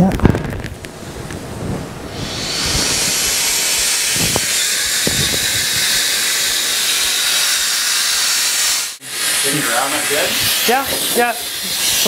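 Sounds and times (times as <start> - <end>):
compressed air hissing: 2.0 - 12.0.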